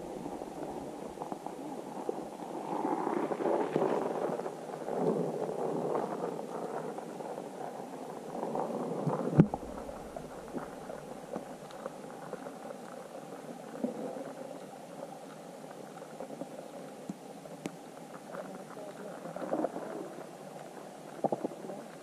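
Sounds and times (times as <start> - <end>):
muffled underwater river rushing: 0.0 - 22.0.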